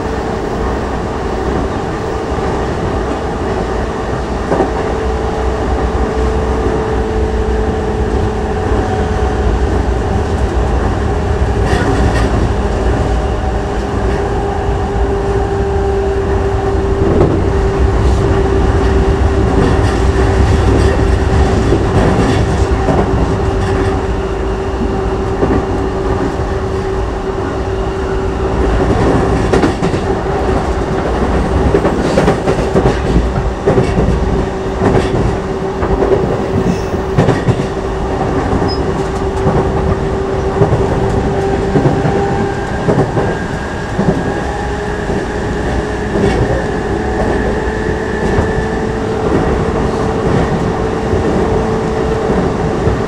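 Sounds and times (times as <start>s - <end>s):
train wheels clacking over rails: 0.0s - 53.0s.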